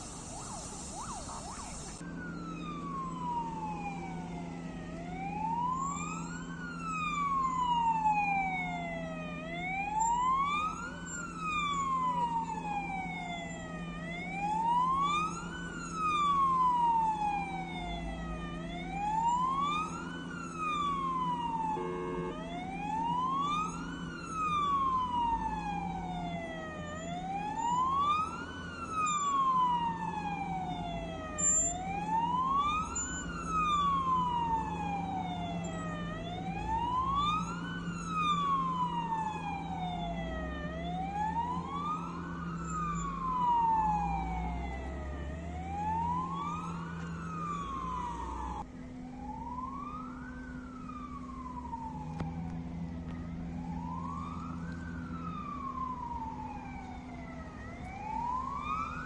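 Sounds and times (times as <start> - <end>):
ambulance siren wailing: 0.0 - 59.0.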